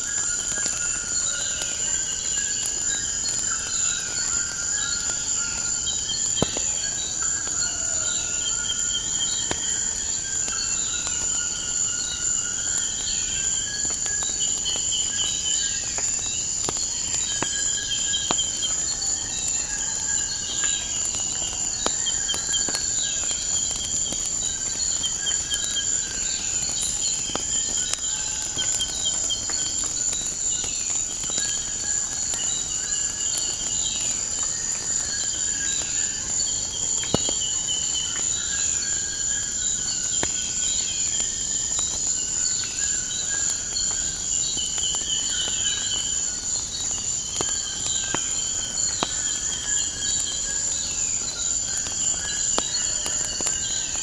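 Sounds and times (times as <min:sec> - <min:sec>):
cricket trill: 0:00.0 - 0:54.0
wood fire crackling: 0:00.0 - 0:54.0.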